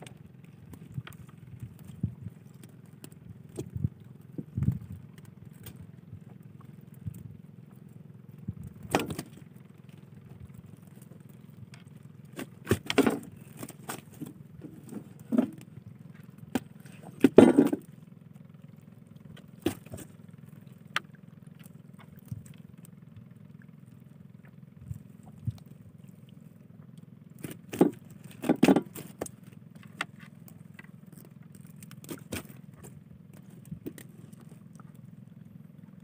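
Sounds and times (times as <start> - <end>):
boat engine hum: 0.0 - 36.0.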